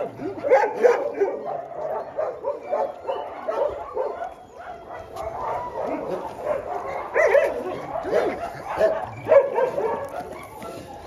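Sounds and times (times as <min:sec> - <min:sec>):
dogs yipping and whining: 0:00.0 - 0:11.0.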